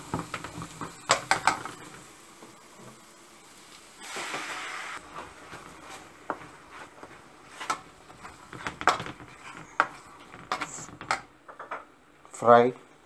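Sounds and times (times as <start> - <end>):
paste sizzling in oil: 0.0 - 10.9.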